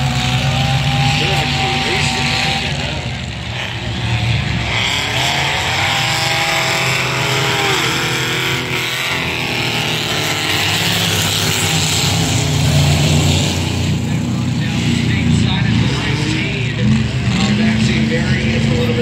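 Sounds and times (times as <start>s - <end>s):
racing truck engines droning: 0.0s - 19.0s.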